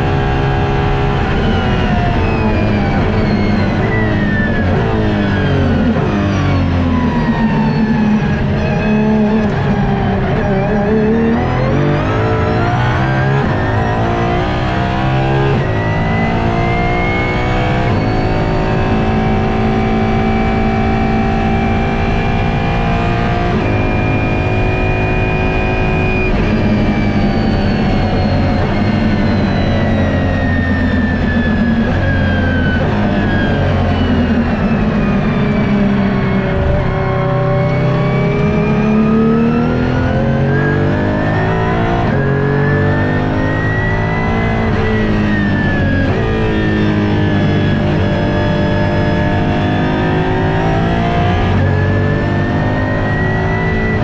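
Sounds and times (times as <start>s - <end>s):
car engine at speed from cabin: 0.0s - 54.0s.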